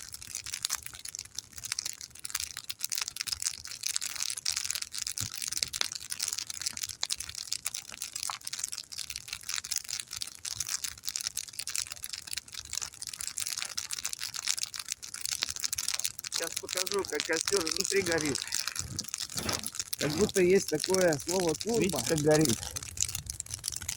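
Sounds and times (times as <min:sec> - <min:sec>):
campfire crackling and hissing: 0:00.0 - 0:23.9.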